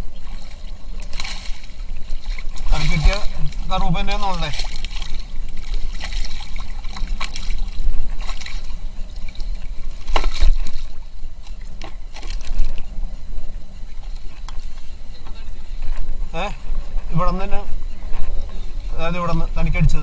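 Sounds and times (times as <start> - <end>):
water splashing: 0.0 - 16.6
low microphone rumble: 0.0 - 20.0.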